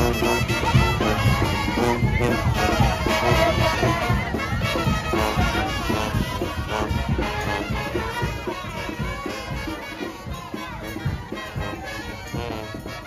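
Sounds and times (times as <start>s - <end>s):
brass band playing marching jazz: 0.0s - 13.0s.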